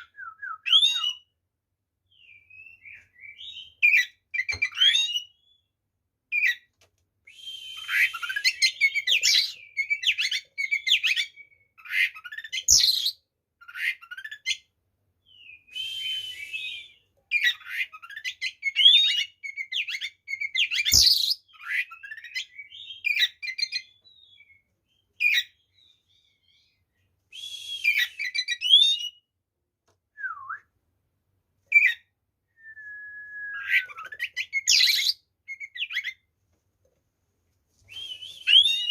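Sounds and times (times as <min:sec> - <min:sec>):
bird singing whistles and trills: 0:00.0 - 0:01.3, 0:02.1 - 0:05.7, 0:07.3 - 0:14.6, 0:15.2 - 0:29.3, 0:30.2 - 0:30.7, 0:31.7 - 0:36.2, 0:37.9 - 0:38.9.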